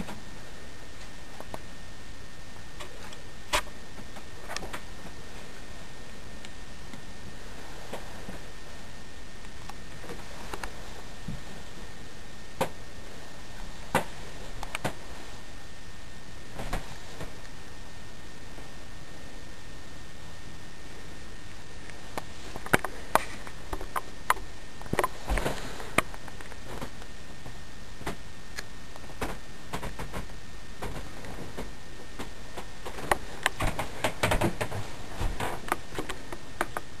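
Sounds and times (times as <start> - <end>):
microphone hiss: 0.0 - 37.0.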